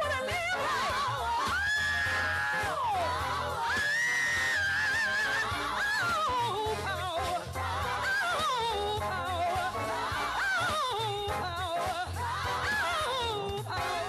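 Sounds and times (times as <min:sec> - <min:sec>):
live band with bass line: 0:00.0 - 0:14.0
woman singing gospel ad-libs: 0:00.0 - 0:14.0.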